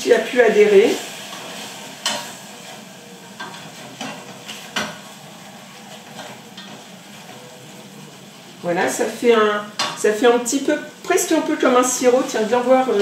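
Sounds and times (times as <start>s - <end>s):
vinegar sizzling: 0.0s - 13.0s.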